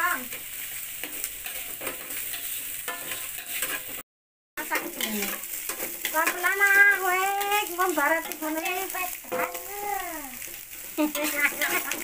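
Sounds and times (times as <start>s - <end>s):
food frying in oil: 0.0s - 4.0s, 4.6s - 12.0s
metal spatula scraping wok: 0.0s - 4.0s, 4.6s - 12.0s.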